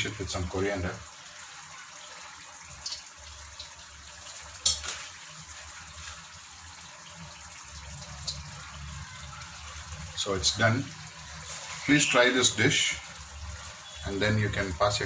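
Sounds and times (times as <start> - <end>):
food sizzling in a pan: 1.3 - 10.1, 10.8 - 14.2.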